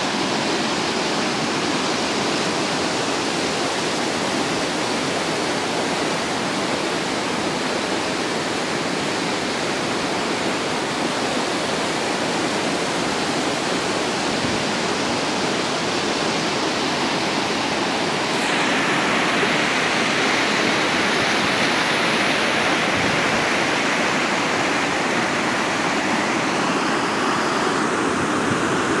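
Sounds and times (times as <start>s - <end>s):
muddy river rushing: 0.0s - 29.0s.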